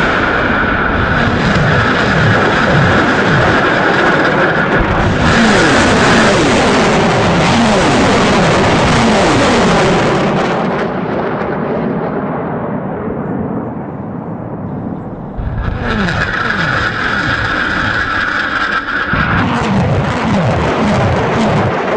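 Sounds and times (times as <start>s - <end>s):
rockets roaring away: 0.0s - 21.9s.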